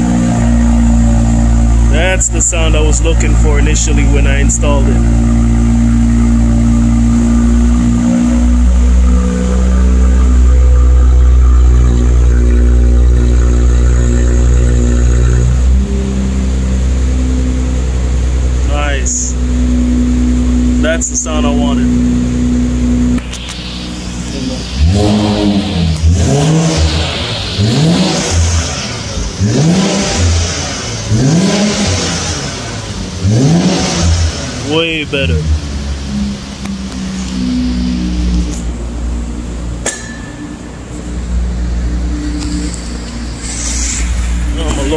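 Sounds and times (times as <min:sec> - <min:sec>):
car engine rumbling: 0:00.0 - 0:44.9.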